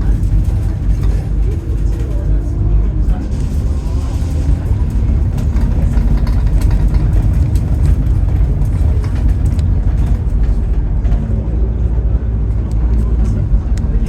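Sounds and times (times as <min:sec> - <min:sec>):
bus diesel engine running: 0:00.0 - 0:14.0
light clicks and rattles: 0:00.0 - 0:14.0.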